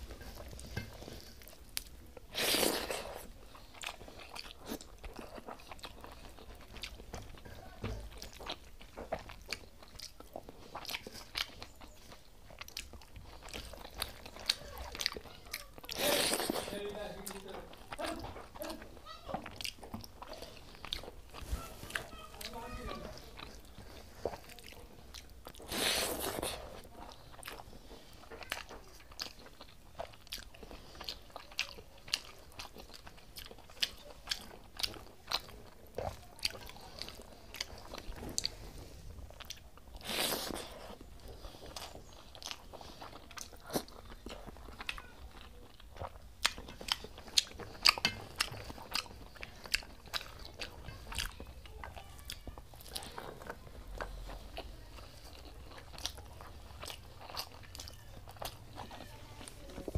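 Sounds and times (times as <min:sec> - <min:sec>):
wet chewing and lip smacks: 0:00.0 - 0:59.9.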